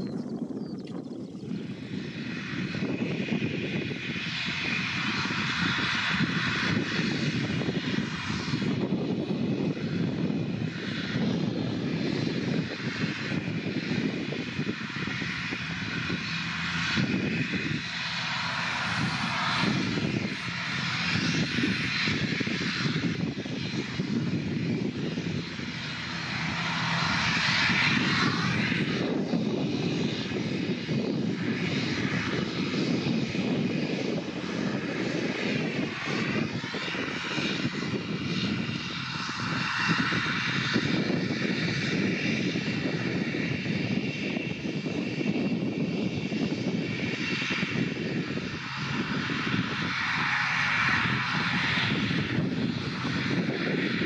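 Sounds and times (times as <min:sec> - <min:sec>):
turboprop engines running: 0:00.0 - 0:54.0.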